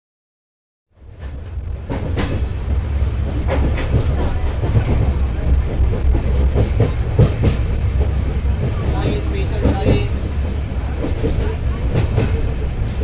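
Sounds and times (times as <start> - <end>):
train wheels rumbling on rail: 0.9 - 13.0
wheels clacking over rail joints: 1.0 - 13.0.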